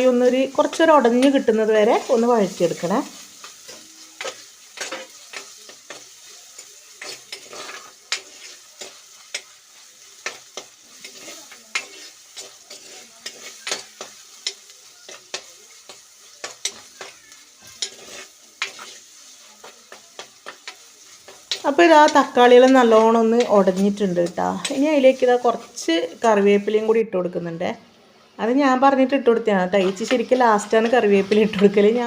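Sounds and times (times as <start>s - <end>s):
vegetables sizzling in a pan: 0.0s - 32.0s
spoon knocking and scraping a pan: 0.2s - 1.5s, 3.2s - 26.5s, 29.8s - 32.0s.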